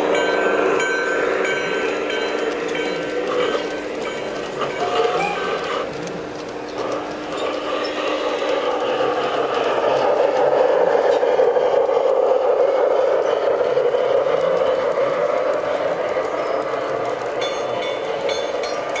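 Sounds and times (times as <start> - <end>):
model train rolling and motor: 0.0 - 19.0.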